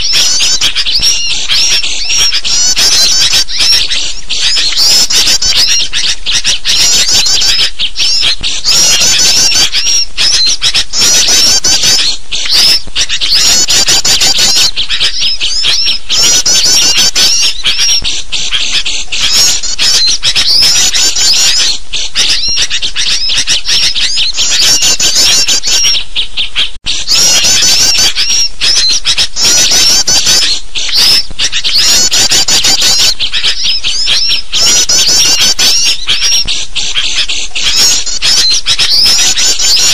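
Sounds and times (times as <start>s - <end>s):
birds chattering and squawking: 0.0s - 39.9s.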